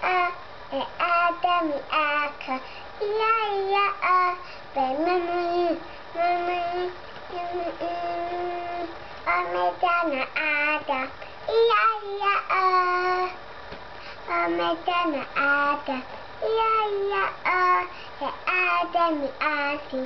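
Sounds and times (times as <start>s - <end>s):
boy singing: 0.0s - 13.4s, 14.3s - 20.0s.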